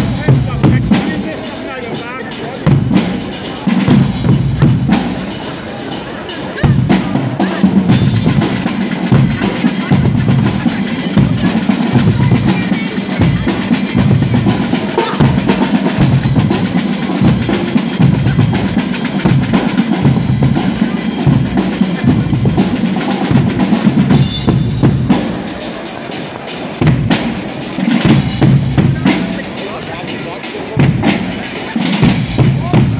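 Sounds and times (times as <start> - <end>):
bass drum beat: 0.0 - 1.4, 2.4 - 5.3, 6.6 - 25.5, 26.8 - 30.0, 30.6 - 32.9
brass band: 0.0 - 32.9
snare drums: 0.0 - 32.9.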